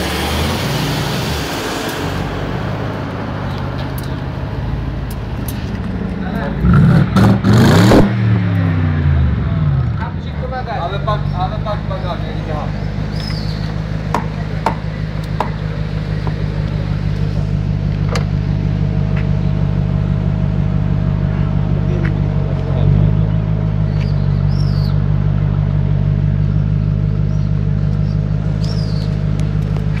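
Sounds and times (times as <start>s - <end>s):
car exhaust idling drone: 0.0s - 30.0s.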